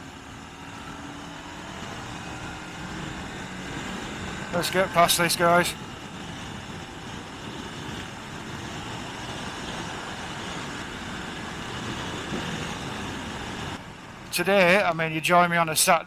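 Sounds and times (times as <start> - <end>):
motorcycle engine: 0.0 - 14.3
wind noise: 0.0 - 15.3.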